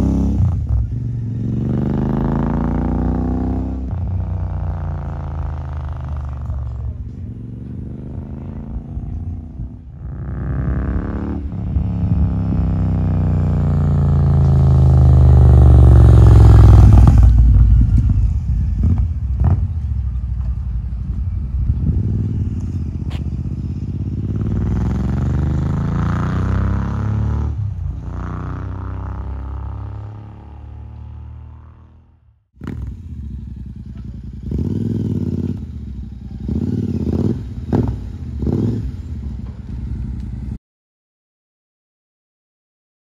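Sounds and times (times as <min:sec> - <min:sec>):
motorcycle passing by: 0:00.0 - 0:20.3, 0:21.2 - 0:40.6.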